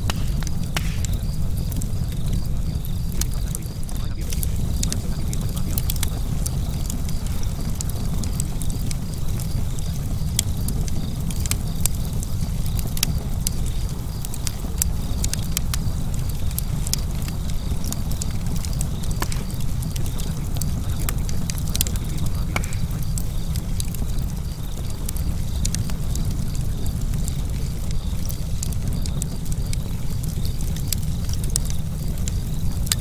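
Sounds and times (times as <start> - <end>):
fire crackling and popping: 0.0 - 33.0
low rumble of burning: 0.0 - 33.0.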